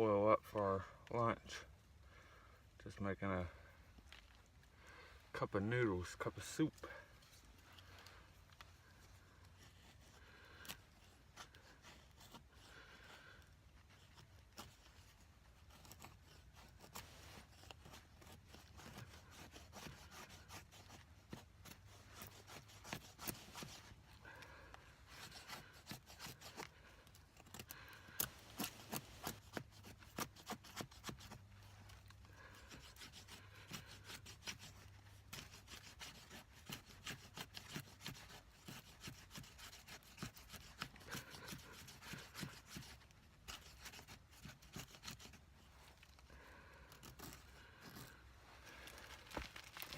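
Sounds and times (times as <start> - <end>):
knife scraping a dry stick: 2.7 - 49.9.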